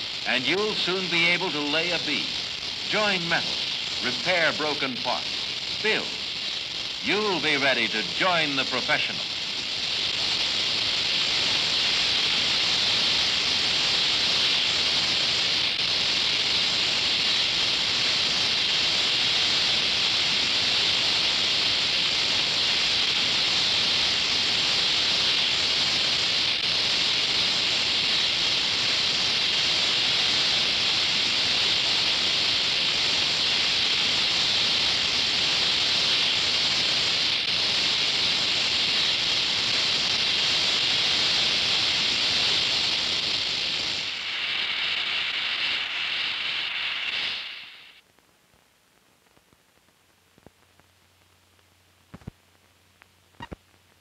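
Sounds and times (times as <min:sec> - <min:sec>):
welding torch flame hissing: 0:00.0 - 0:48.2, 0:49.2 - 0:54.0.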